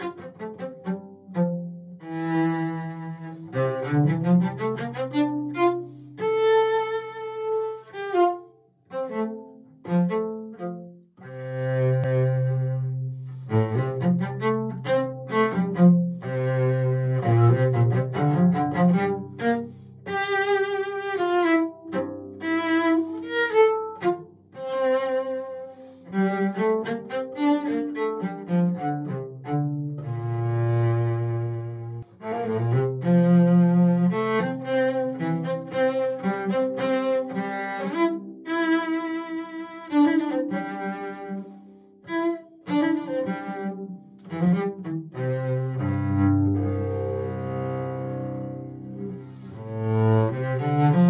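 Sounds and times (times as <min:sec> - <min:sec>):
bowed cello melody: 0:00.0 - 0:51.0.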